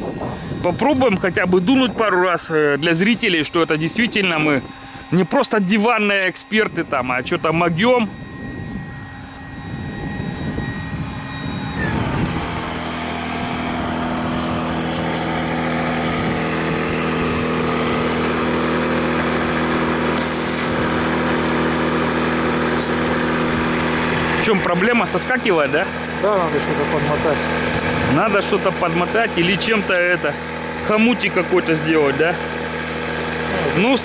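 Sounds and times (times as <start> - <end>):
small motor whining and humming: 0.0 - 34.0.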